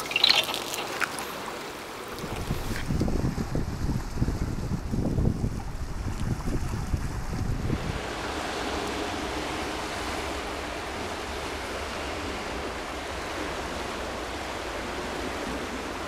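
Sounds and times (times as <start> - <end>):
water current rushing: 0.0 - 16.0
wind rumble on microphone: 2.1 - 16.0.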